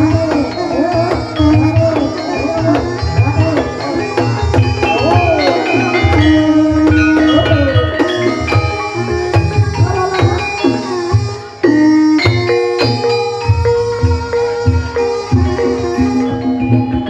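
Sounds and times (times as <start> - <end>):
gliding melody line: 0.0 - 17.0
hand drum strokes: 0.0 - 17.0.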